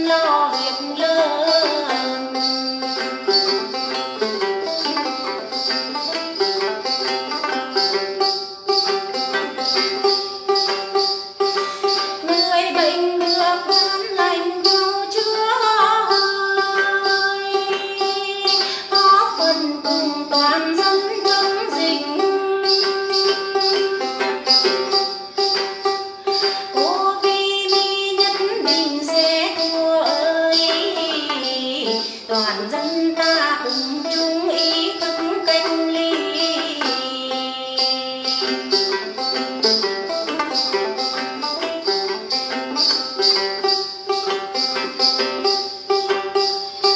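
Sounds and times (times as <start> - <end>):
woman singing folk song: 0.0 - 8.2, 11.5 - 46.9
plucked long-necked lute: 0.0 - 46.9.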